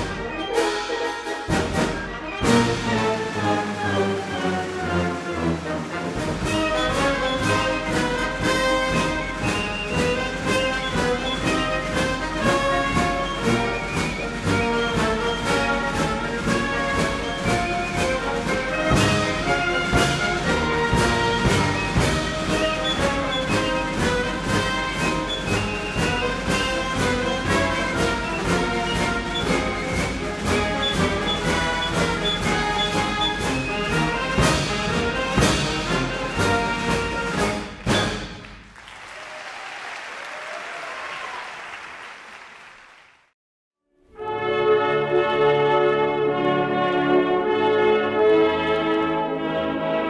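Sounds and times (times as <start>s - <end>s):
orchestral music with brass: 0.0s - 38.8s, 44.0s - 50.0s.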